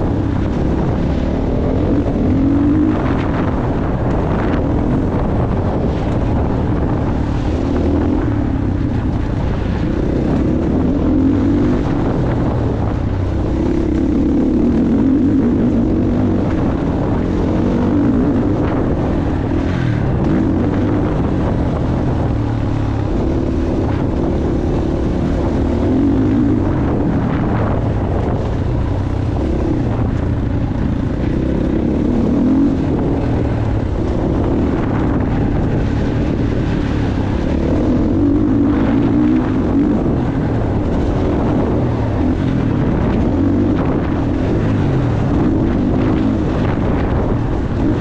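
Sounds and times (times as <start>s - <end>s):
motorbike engine revving: 0.0s - 48.0s
wind noise on microphone: 0.0s - 48.0s.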